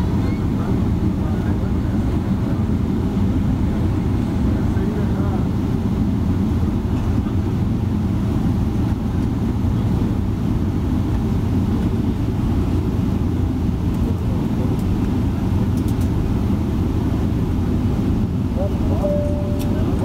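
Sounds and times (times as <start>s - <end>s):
jet airliner taxiing rumble: 0.0s - 20.0s.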